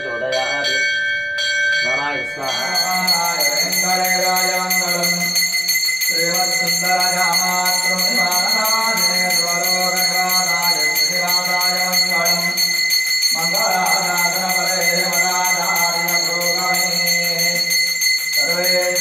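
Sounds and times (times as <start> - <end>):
man chanting: 0.0 - 0.9, 1.8 - 19.0
hand bell ringing rapidly: 0.9 - 19.0.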